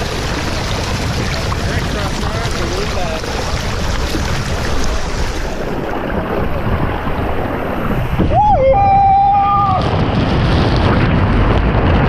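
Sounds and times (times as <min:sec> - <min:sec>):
rushing water: 0:00.0 - 0:12.0
wind noise on microphone: 0:00.0 - 0:12.0.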